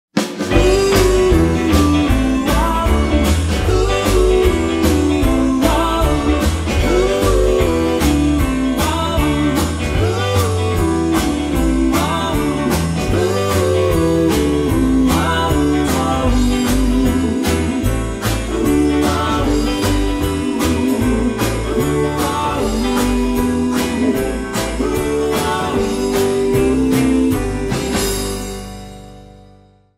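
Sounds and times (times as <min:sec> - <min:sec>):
upbeat guitar music: 0:00.2 - 0:29.8.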